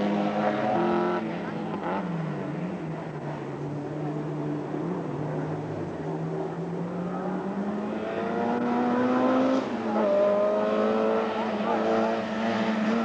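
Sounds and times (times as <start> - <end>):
race car engine accelerating hard: 0.0 - 13.0.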